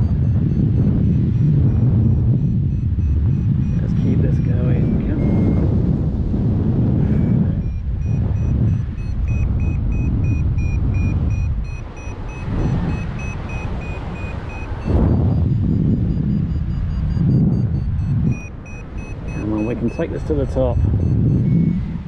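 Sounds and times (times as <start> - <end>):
variometer beeping: 0.0 - 22.0
wind rumble on microphone: 0.0 - 22.0.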